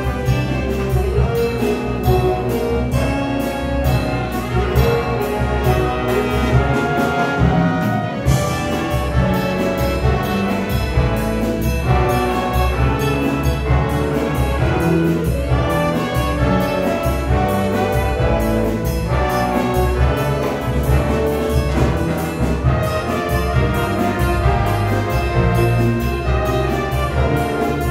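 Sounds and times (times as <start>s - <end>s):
big band horns playing: 0.0s - 27.9s
drum kit beat: 0.0s - 27.9s.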